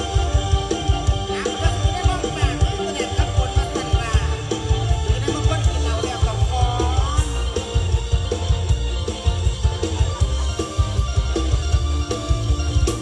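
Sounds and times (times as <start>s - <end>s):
band music with heavy bass: 0.0s - 13.0s
sliding melodic notes: 0.0s - 13.0s.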